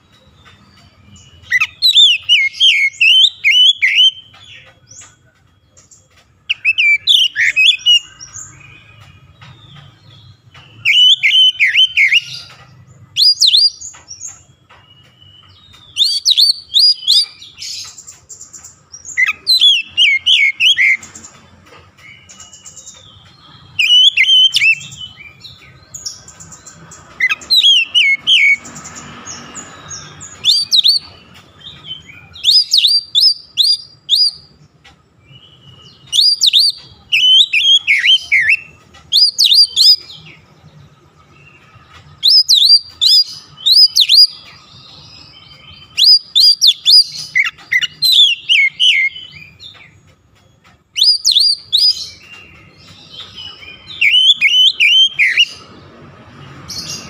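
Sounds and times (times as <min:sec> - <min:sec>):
bird whistled song: 0:00.0 - 0:55.8.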